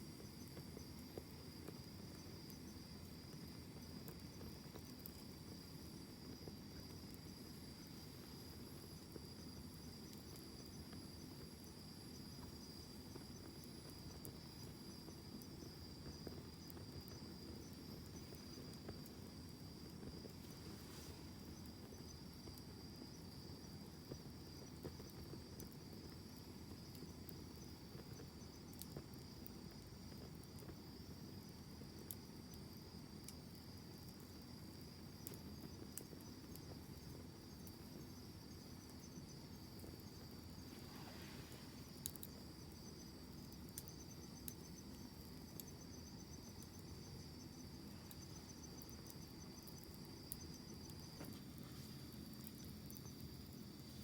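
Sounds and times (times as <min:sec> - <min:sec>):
campfire crackling: 0:00.0 - 0:54.0
crickets trilling: 0:00.0 - 0:54.0.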